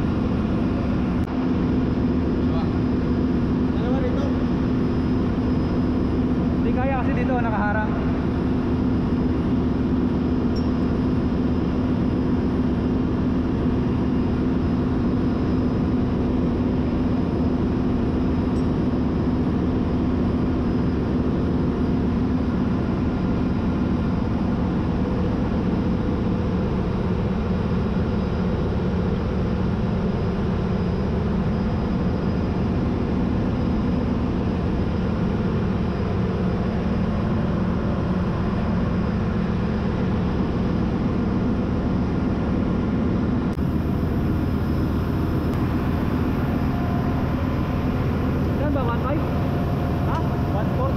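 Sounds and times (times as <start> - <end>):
engine-room machinery drone: 0.0 - 50.9.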